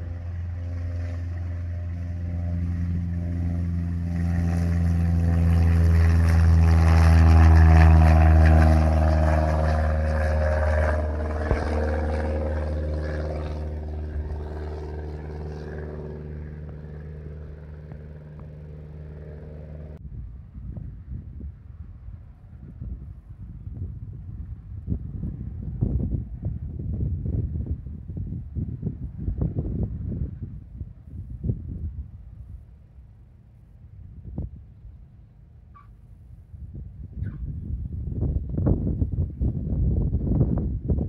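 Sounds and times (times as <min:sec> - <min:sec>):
light plane engine and propeller: 0:00.0 - 0:41.0
wind rumble on microphone: 0:00.0 - 0:41.0.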